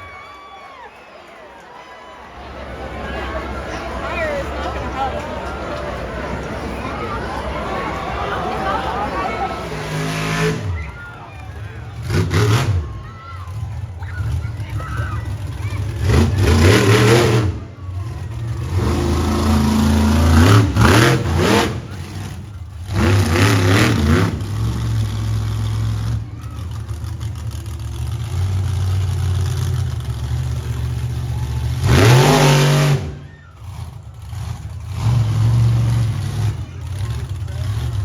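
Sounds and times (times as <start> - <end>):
monster truck engine revving: 2.3 - 38.0.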